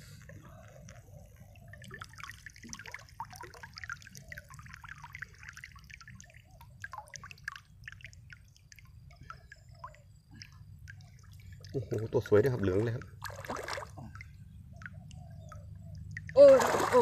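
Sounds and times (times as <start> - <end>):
water dripping and trickling: 0.2 - 17.0
small splashes in water: 1.8 - 17.0.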